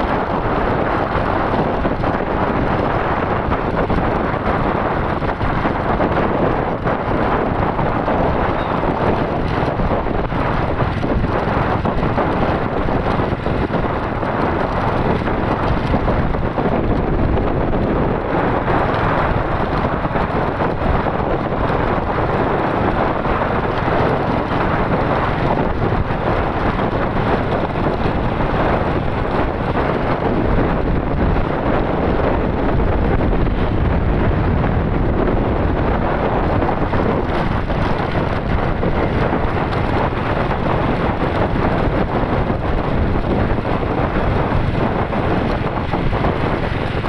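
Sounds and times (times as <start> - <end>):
vehicle running and road noise: 0.0 - 47.0
wind noise on microphone: 0.0 - 47.0.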